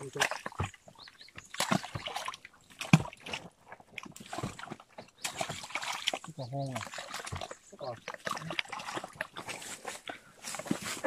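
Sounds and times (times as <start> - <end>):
hoe digging into wet earth: 0.0 - 11.0
splashing in muddy water: 0.0 - 11.0.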